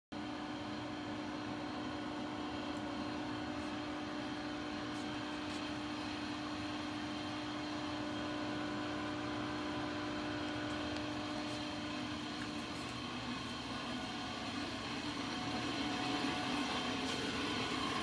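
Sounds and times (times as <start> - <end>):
machine cabinet humming: 0.2 - 18.0.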